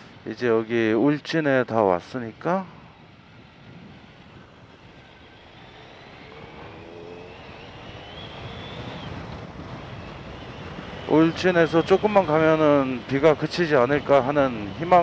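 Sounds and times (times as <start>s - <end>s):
wind and wet road noise: 0.0s - 15.0s
motorcycle engine: 2.9s - 15.0s.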